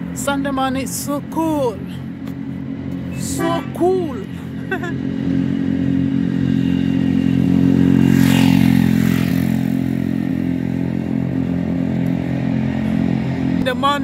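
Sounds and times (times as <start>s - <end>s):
vehicle engine humming: 0.0s - 14.0s
vehicle passing: 0.0s - 14.0s.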